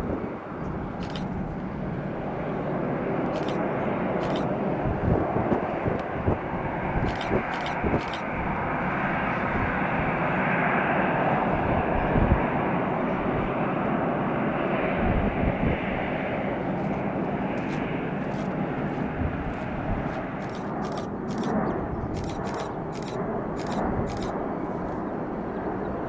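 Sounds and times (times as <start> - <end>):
jet engines rushing: 0.0 - 26.0.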